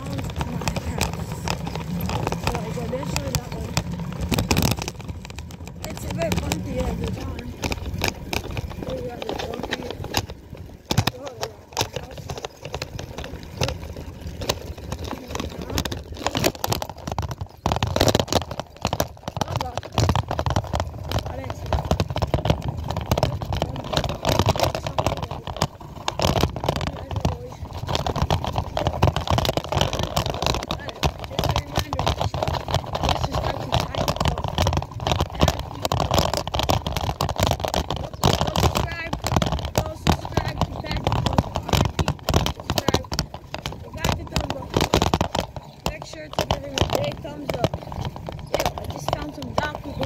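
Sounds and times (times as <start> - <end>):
bicycle rattling and knocking: 0.0 - 50.0.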